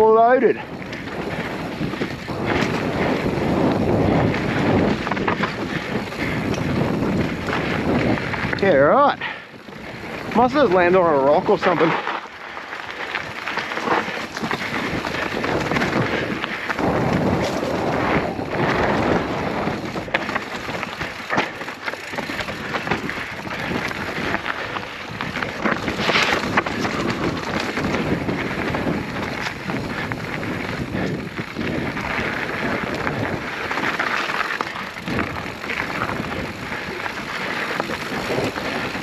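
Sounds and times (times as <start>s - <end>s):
wind buffeting microphone: 0.0s - 12.1s, 12.8s - 39.0s
bike tyres on rocky trail: 0.0s - 39.0s.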